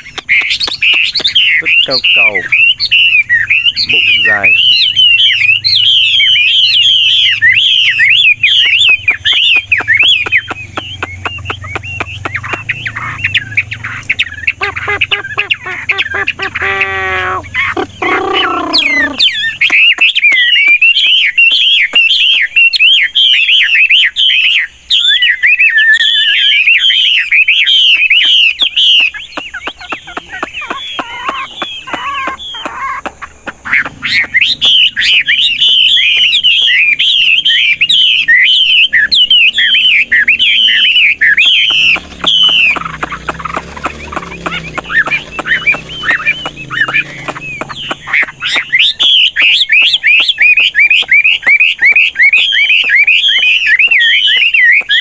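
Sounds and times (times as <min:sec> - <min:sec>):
bird singing whistled phrases: 0:00.0 - 0:32.9, 0:33.7 - 0:55.0.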